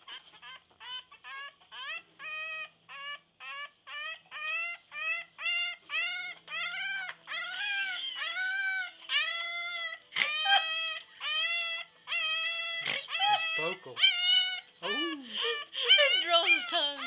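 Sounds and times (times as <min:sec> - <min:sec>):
puppy howling: 0:00.1 - 0:17.0.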